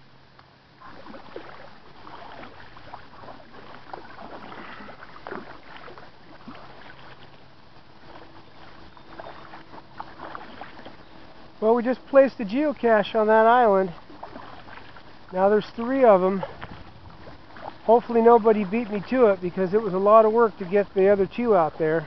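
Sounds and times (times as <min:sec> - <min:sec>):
paddle dipping into water: 0:00.0 - 0:22.0
water splashes and drips: 0:00.3 - 0:22.0.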